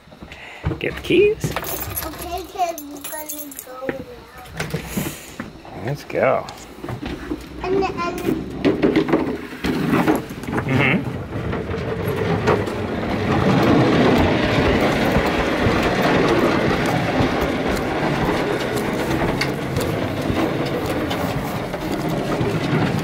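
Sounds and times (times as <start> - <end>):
toy truck wheels rolling on concrete: 0.1 - 23.0
clicks and rattles: 0.8 - 4.8, 6.4 - 23.0.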